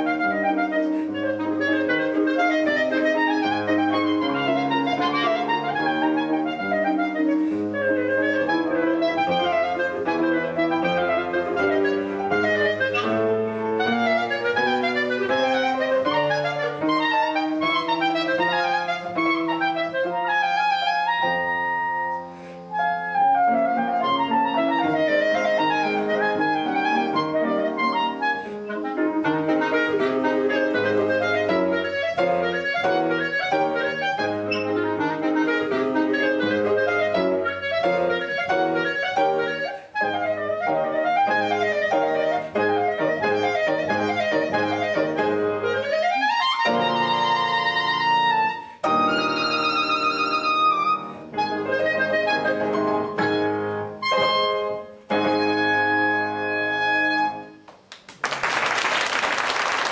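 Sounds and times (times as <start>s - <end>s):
piano chords: 0.0s - 57.9s
clarinet runs: 0.0s - 59.9s.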